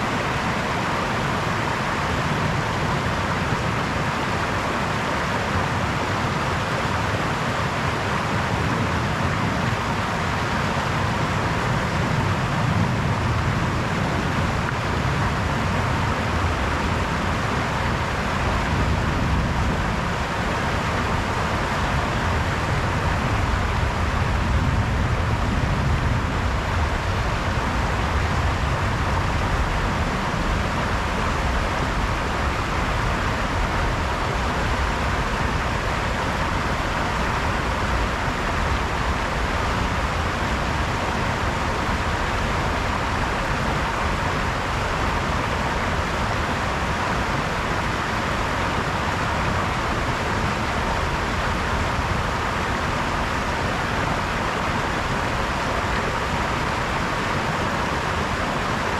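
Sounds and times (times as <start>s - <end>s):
brook babbling over stones: 0.0s - 25.4s, 26.0s - 58.9s.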